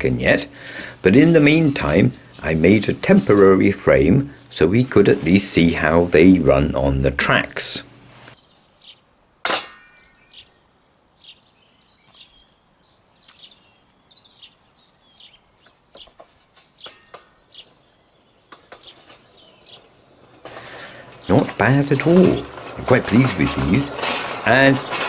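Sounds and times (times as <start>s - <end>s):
small birds chirping: 0.0s - 5.1s, 8.3s - 9.2s, 9.9s - 25.0s.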